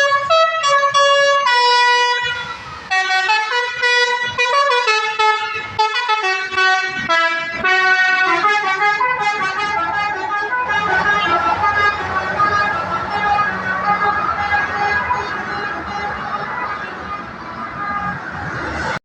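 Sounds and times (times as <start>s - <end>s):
musical air horn playing tune: 0.0s - 18.5s.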